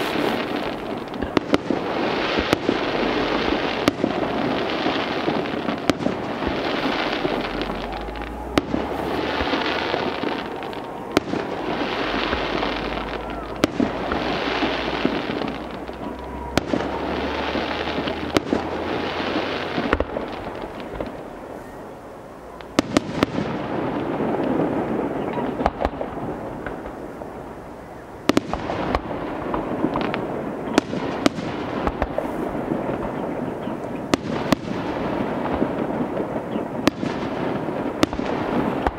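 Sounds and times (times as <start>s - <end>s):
continuous background noise: 0.0s - 38.9s
fireworks bursting with bangs: 0.0s - 38.9s.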